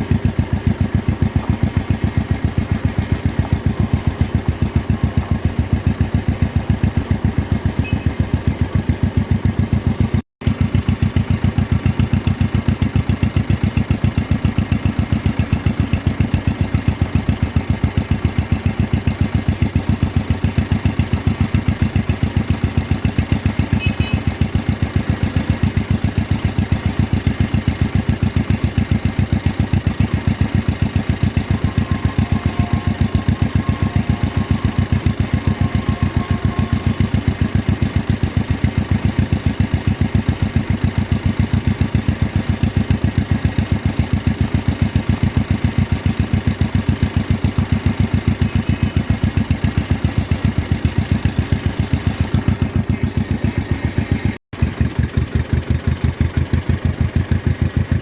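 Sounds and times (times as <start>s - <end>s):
two-cylinder tractor engine running: 0.0s - 58.0s.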